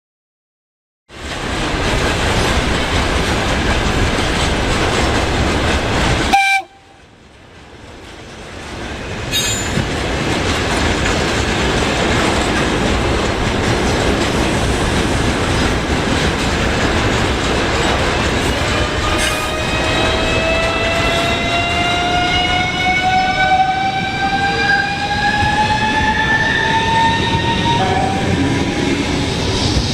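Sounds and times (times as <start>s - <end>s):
train wheel and rail noise: 1.1s - 29.9s.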